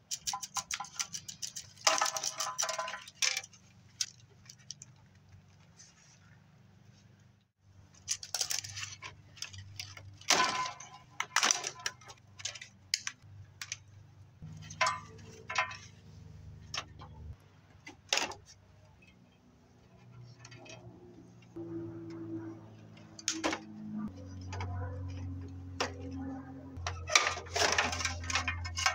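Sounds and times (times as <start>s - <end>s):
low steady hum: 1.4s - 28.9s.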